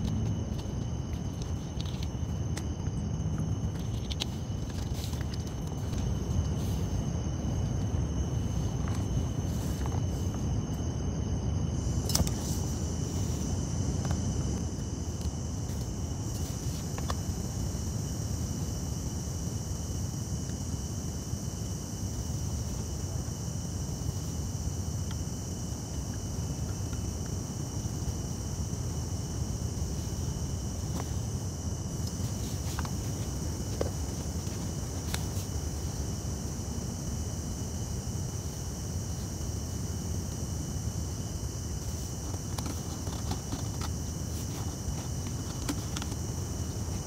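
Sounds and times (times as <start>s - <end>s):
constant low roar: 0.0s - 47.0s
crickets chirping: 0.0s - 47.0s.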